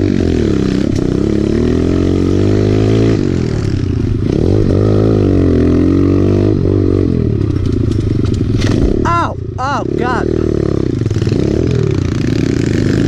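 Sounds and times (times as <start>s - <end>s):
small motorcycle engine revving: 0.0s - 13.0s.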